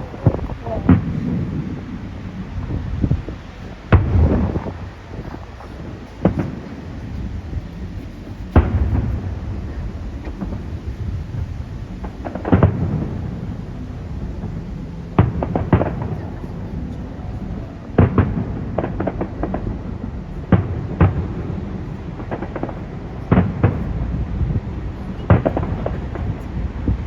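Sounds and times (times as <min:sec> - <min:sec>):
fireworks bangs with rumbling echo: 0:00.0 - 0:27.0.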